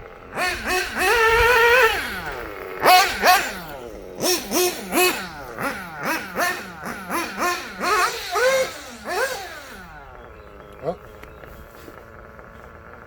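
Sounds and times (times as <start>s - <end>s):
model car engine revving: 0.0s - 13.0s.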